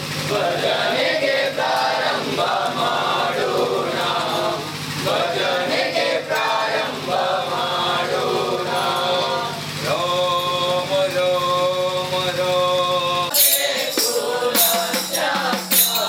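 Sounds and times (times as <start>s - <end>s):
male choir chanting: 0.2s - 16.0s.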